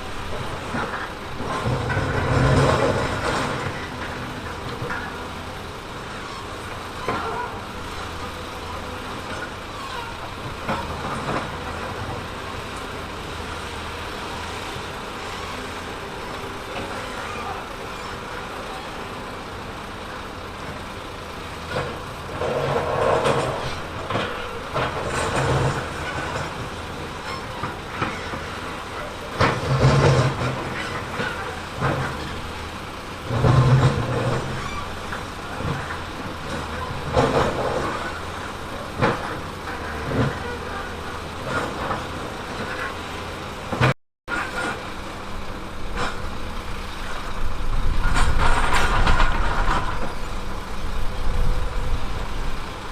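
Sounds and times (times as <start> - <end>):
diesel engine of earthmover: 0.0 - 52.9.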